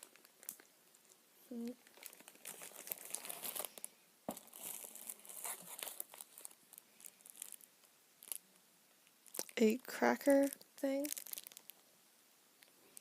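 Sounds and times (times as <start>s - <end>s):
plastic wrappers crinkling: 0.0s - 11.8s.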